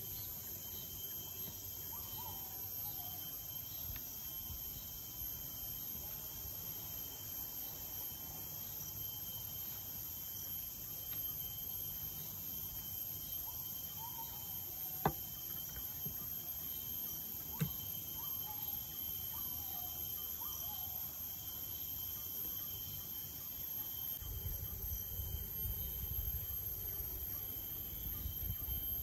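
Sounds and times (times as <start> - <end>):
faint bird-like chirps: 0.0 - 6.2, 6.8 - 29.0
high insect drone: 0.0 - 29.0.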